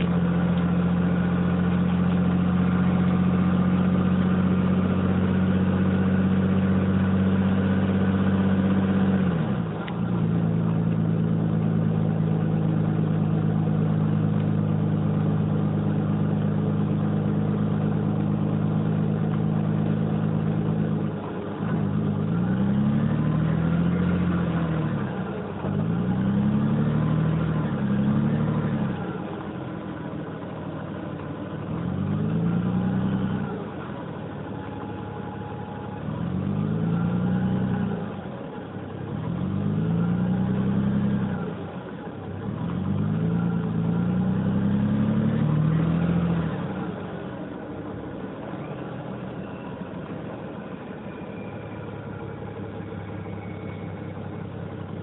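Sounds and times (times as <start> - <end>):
diesel bus engine revving: 0.0 - 55.0
diesel bus engine running: 0.0 - 55.0.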